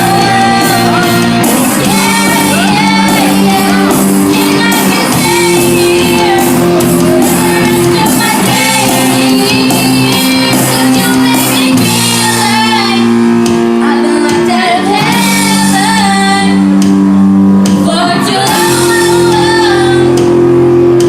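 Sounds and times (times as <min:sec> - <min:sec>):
woman singing: 0:00.0 - 0:13.2, 0:13.8 - 0:16.8, 0:17.8 - 0:20.3
band playing pop song: 0:00.0 - 0:21.0.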